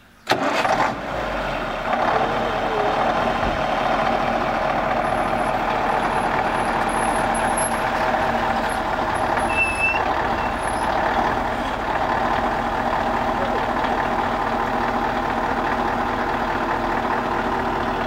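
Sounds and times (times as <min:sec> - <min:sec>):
diesel truck engine running: 0:00.3 - 0:18.0.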